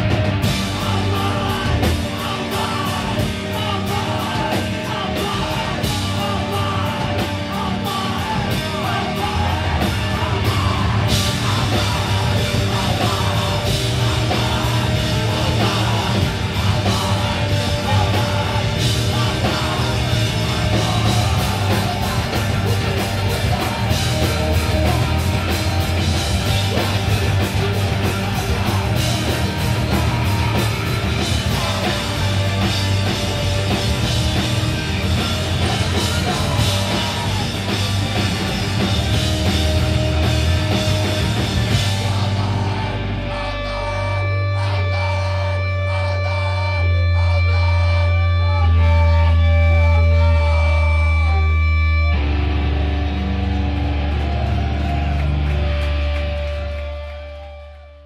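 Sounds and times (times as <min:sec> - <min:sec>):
punk band playing live: 0:00.0 - 0:58.0.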